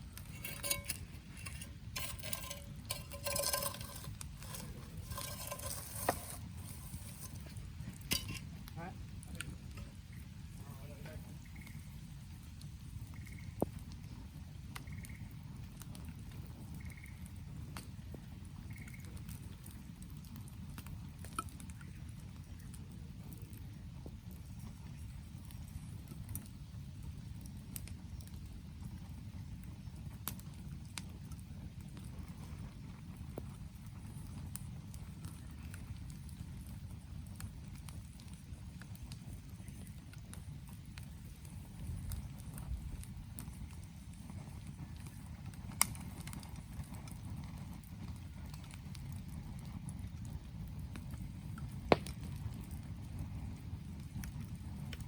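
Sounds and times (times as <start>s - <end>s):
campfire crackles and pops: 0.0s - 55.0s
low steady fire rumble: 0.0s - 55.0s.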